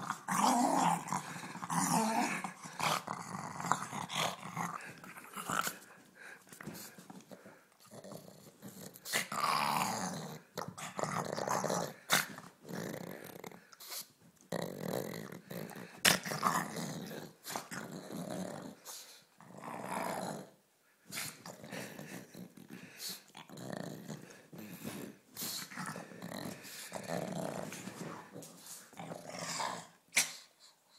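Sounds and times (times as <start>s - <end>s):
dog play-growling and snorting: 0.0s - 30.5s.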